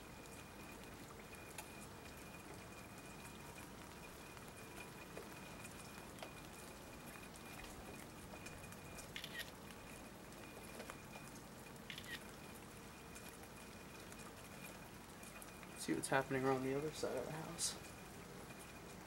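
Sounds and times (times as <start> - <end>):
faint rain: 0.0 - 19.0
water dripping: 0.0 - 19.0.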